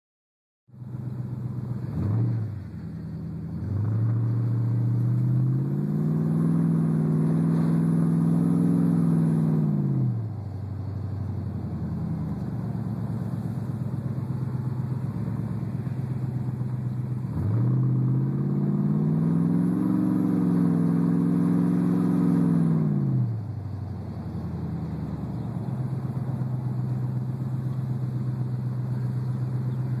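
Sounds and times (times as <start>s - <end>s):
pickup truck engine revving: 0.9s - 30.0s.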